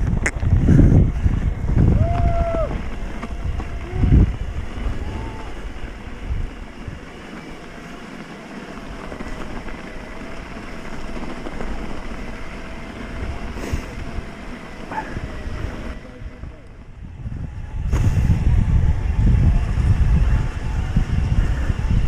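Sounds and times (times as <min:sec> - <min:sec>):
faint steady whine: 0:00.0 - 0:22.0
wind buffeting microphone: 0:00.0 - 0:22.0.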